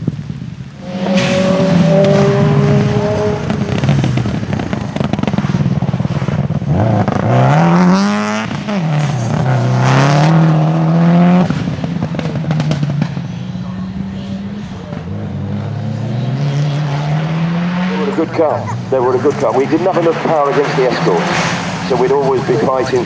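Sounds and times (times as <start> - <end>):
rally car engine accelerating: 0.1 - 23.0.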